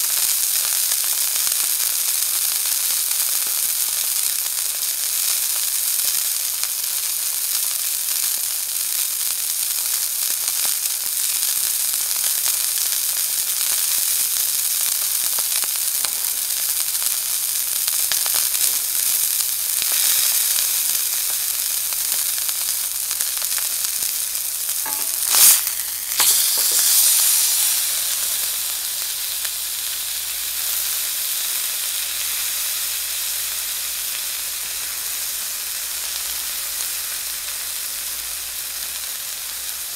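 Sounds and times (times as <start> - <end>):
steak sizzling in a pan: 0.0 - 39.9.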